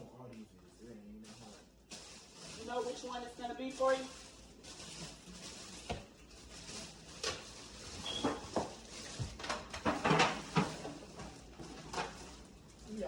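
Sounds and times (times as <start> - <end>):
people handling food and tableware: 1.2 - 13.0.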